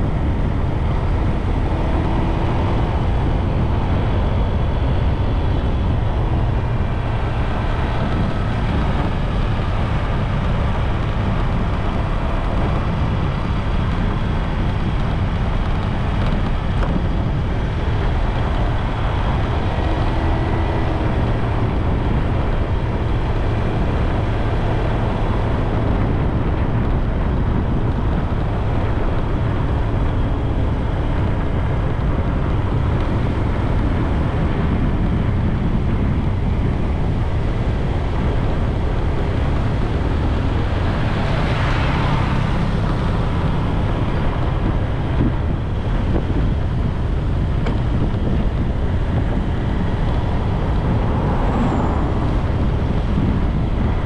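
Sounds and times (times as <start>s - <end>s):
road noise: 0.0s - 54.0s
wind on microphone: 0.0s - 54.0s.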